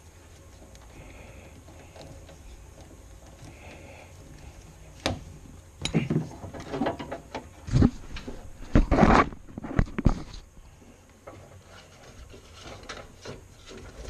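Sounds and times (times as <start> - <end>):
rustling and knocking: 0.0 - 10.5, 11.2 - 14.0.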